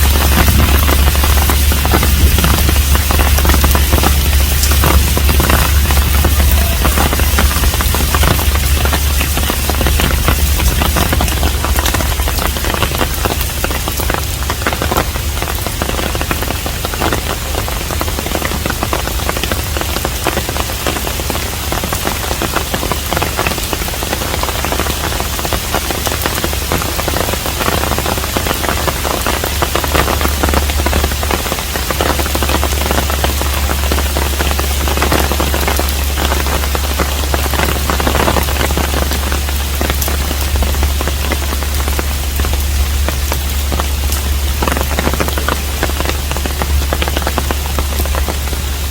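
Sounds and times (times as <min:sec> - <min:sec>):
low rumble: 0:00.0 - 0:48.9
rain patter: 0:00.0 - 0:48.9.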